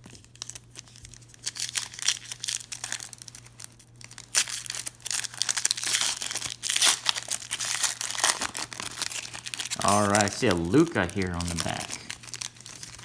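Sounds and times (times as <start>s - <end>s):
wrapper crinkling and tearing: 0.0s - 13.0s.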